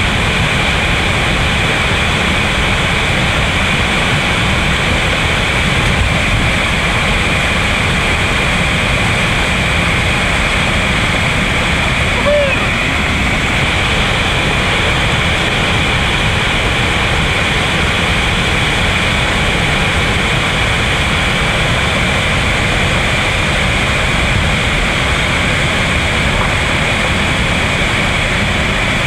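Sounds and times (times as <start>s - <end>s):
whitewater rapids roaring: 0.0s - 29.0s.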